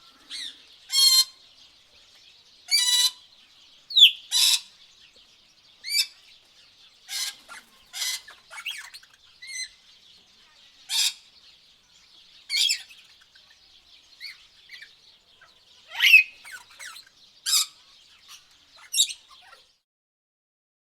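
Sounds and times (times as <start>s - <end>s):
birds squawking and chirping: 0.0s - 19.8s.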